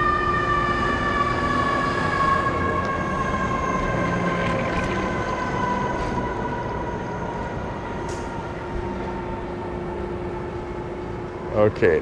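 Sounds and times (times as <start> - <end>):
emergency siren steady tone: 0.0 - 11.8
street traffic: 0.0 - 12.0.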